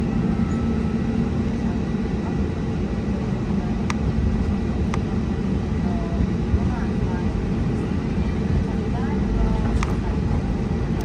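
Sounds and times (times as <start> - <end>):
airliner low rumble: 0.0 - 11.0.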